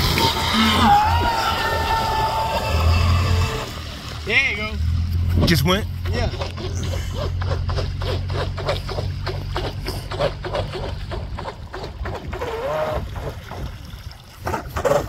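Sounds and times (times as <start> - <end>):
electric speedboat running: 0.0 - 13.7
hull slapping waves: 0.0 - 15.0.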